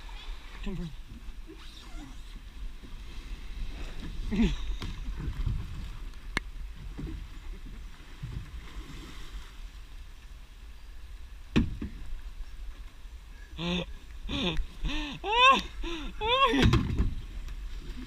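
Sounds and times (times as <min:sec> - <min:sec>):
moving water: 0:00.0 - 0:18.0
kayak splashing: 0:02.3 - 0:13.3, 0:14.1 - 0:18.0.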